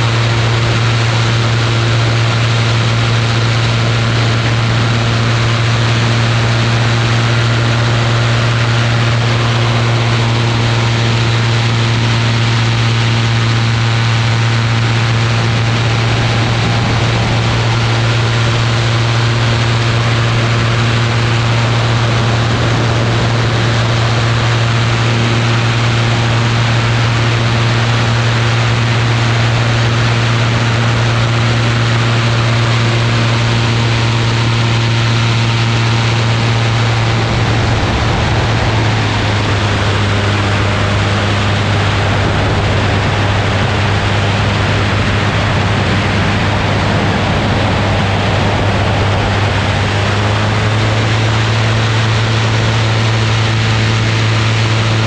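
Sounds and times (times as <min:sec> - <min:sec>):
ultralight aircraft engine drone: 0:00.0 - 0:55.0
wind rushing on microphone: 0:00.0 - 0:55.0.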